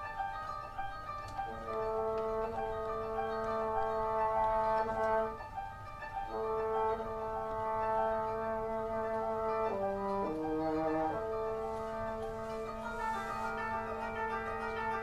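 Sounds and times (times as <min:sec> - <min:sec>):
plucked koto notes: 0:00.0 - 0:15.0
bassoon holding long notes: 0:01.3 - 0:05.6, 0:06.2 - 0:15.0.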